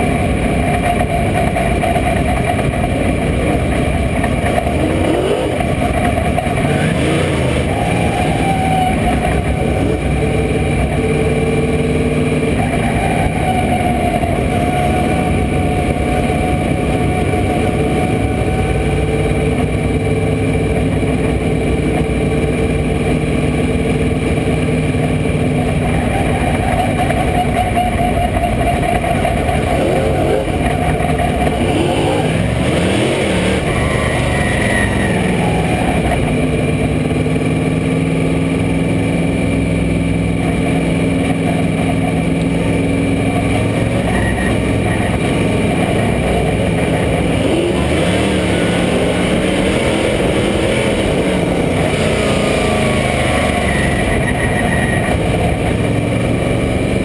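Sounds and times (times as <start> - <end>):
race car engine running loudly: 0.0 - 57.0.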